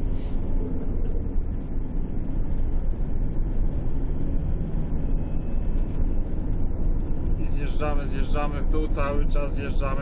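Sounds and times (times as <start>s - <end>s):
van interior road rumble: 0.0s - 10.0s.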